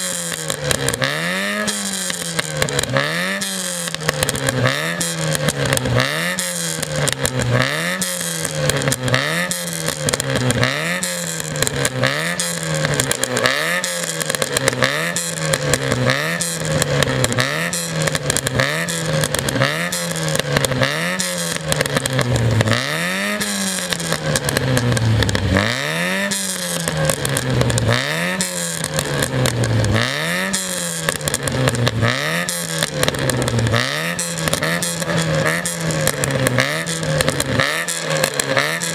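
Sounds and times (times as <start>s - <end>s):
car engine revving: 0.0s - 38.9s
exhaust pops and crackles: 0.0s - 38.9s.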